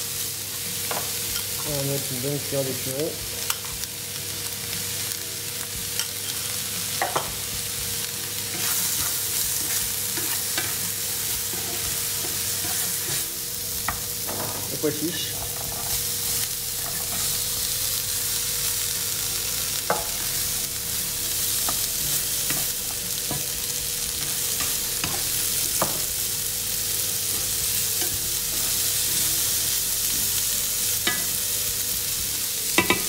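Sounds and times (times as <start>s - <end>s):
vegetables sizzling in frying pan: 0.0s - 33.0s.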